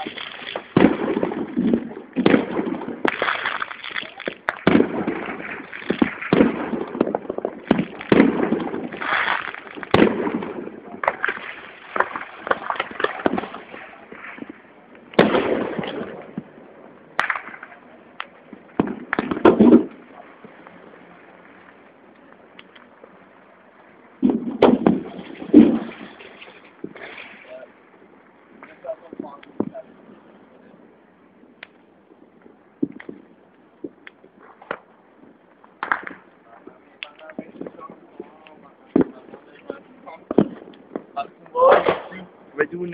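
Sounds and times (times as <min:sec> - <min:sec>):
louder firework blasts: 0:00.0 - 0:21.8, 0:24.2 - 0:27.8, 0:32.8 - 0:42.6
firecrackers bangs and crackles: 0:00.0 - 0:42.9.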